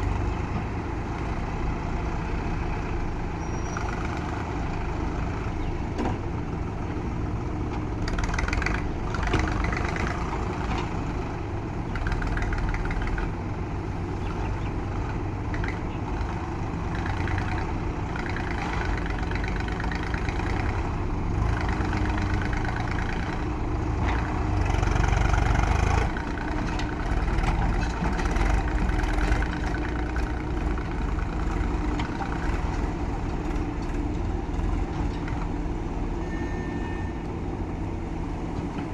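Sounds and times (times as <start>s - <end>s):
diesel engine working: 0.0s - 38.9s.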